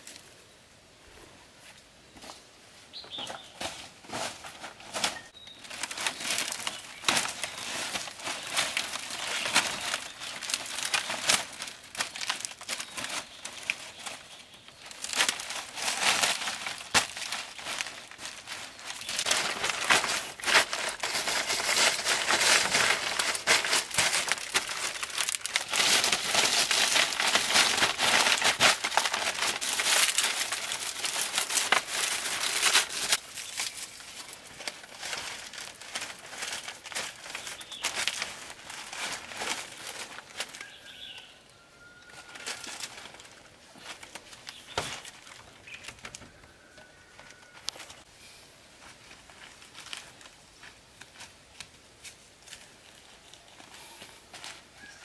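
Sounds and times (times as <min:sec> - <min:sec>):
mat and dry fronds rustling: 0:00.0 - 0:55.0.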